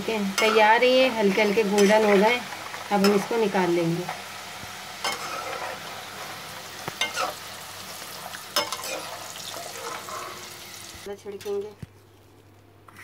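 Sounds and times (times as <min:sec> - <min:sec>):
fries sizzling in hot oil: 0:00.0 - 0:11.7.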